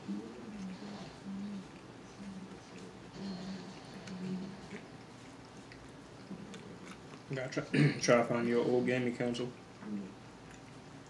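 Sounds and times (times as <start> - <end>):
quiet eating sounds: 0.0 - 11.0.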